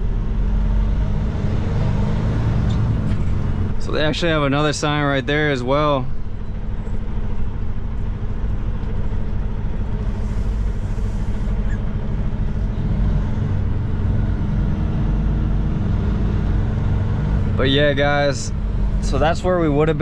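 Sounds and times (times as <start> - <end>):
truck diesel engine drone: 0.0 - 20.0.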